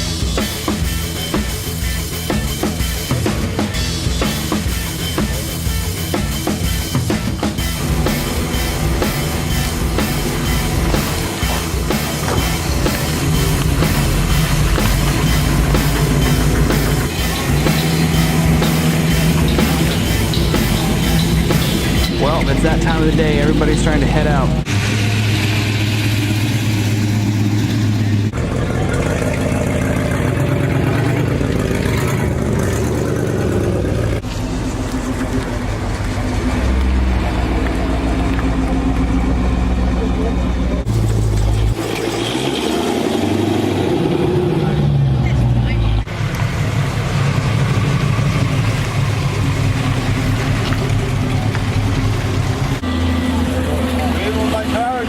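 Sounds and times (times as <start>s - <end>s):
car engines pulling away: 0.0s - 55.0s.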